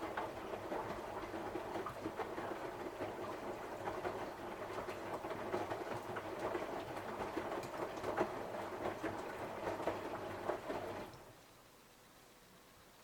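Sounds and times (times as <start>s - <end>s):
laundry tumbling knocks: 0.0s - 11.1s.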